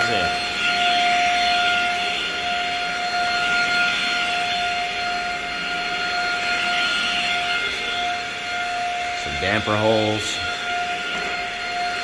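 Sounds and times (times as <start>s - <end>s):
vacuum motor whine: 0.0s - 12.0s.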